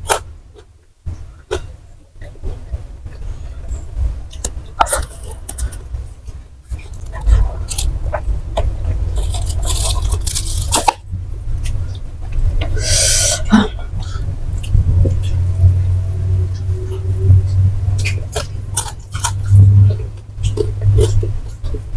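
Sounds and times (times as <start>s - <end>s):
chewing crunchy fried snacks: 1.4s - 15.5s, 17.4s - 21.9s.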